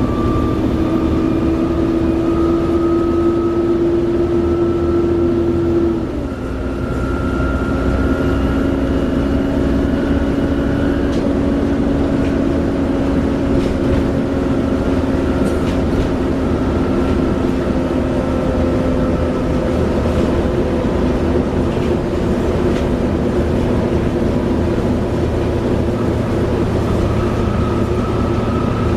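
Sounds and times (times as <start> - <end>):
turbocharger whine: 0.0 - 20.6, 24.9 - 28.9
locomotive engine rumble: 0.0 - 28.9.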